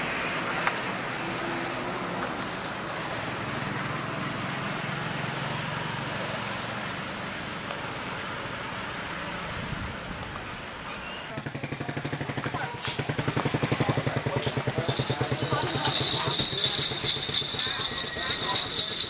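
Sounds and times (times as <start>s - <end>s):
road traffic noise: 0.0s - 19.0s
vehicle engine hum passing: 0.0s - 19.0s.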